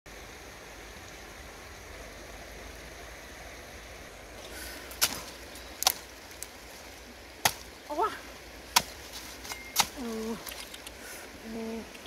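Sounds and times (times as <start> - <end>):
outdoor background noise: 0.1 - 12.0.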